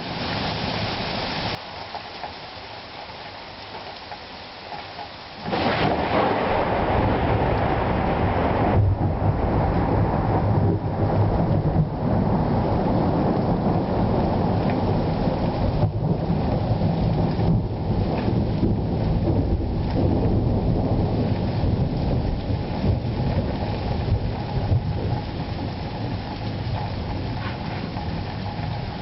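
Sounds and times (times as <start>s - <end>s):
steady rain: 0.0s - 29.0s
thunder rumbling: 5.4s - 29.0s.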